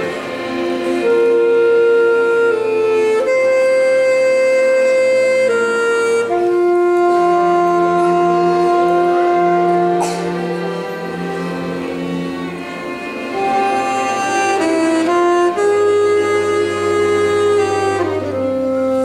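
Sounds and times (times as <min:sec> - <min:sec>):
orchestra playing slow melody: 0:00.0 - 0:19.0.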